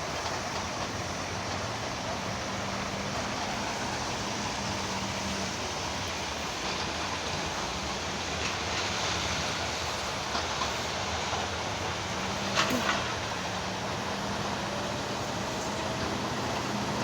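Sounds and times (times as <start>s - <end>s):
constant rushing noise: 0.0s - 17.0s
heavy machine engine running: 0.0s - 17.0s.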